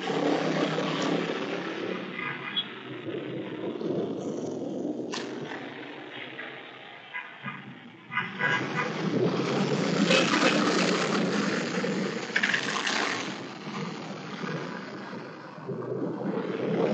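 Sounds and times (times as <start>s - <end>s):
motorcycles passing: 0.0s - 16.9s.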